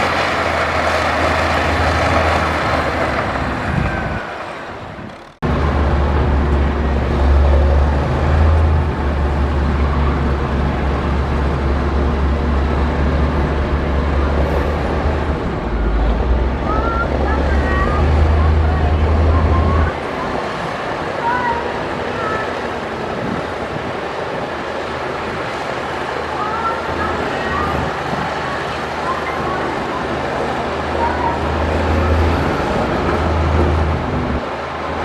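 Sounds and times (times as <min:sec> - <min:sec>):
heavy diesel machinery engine drone: 0:00.0 - 0:35.0.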